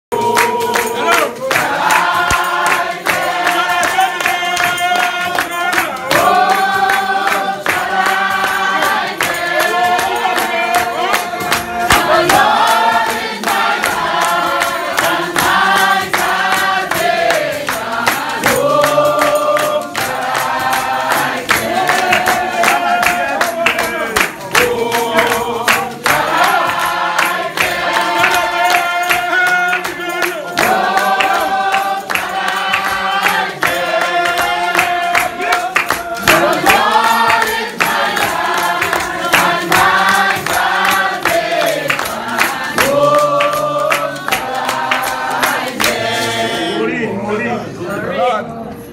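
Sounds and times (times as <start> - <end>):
hand clapping: 0.1 - 46.6
congregation singing a hymn: 0.1 - 48.9.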